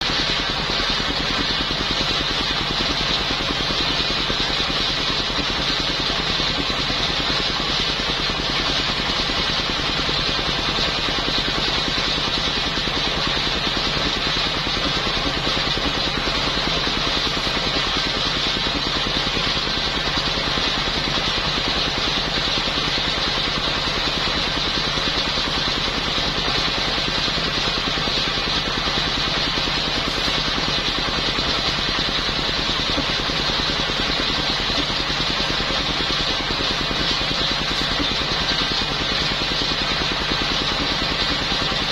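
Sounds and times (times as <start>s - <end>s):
engine-driven circular saw running: 0.0s - 41.9s.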